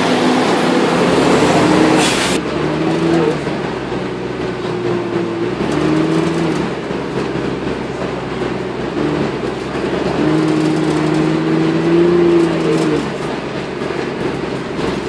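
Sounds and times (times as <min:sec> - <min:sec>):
bus drivetrain hum: 0:00.0 - 0:15.0
road rumble: 0:00.0 - 0:15.0.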